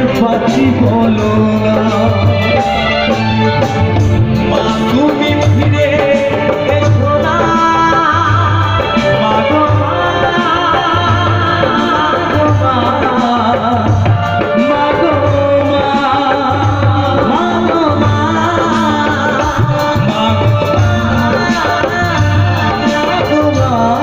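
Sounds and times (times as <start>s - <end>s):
band with drums keyboard and bass: 0.0s - 24.0s
man singing: 0.0s - 24.0s
steady drum beat: 0.0s - 24.0s.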